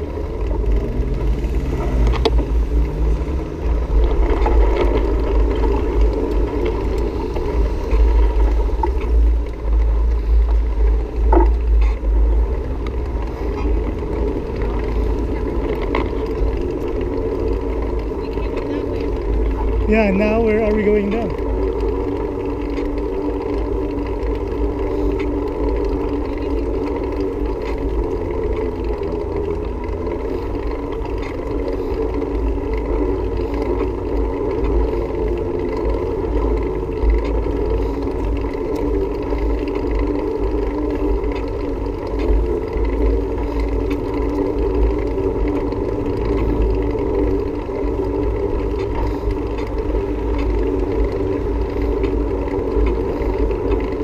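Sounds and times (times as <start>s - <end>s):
steady whirring drone of ride: 0.0s - 54.0s
wind rumbling on microphone: 0.0s - 54.0s.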